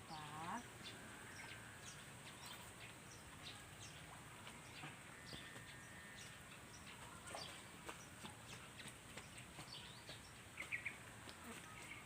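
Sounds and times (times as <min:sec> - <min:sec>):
bird chirps: 0:00.5 - 0:11.0.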